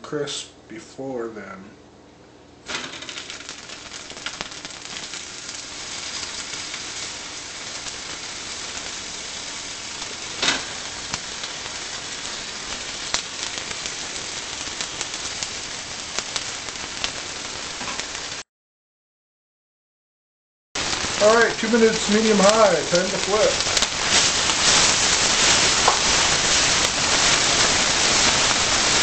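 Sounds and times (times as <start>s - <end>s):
meat sizzling in a pan: 2.7s - 18.4s, 20.8s - 29.0s.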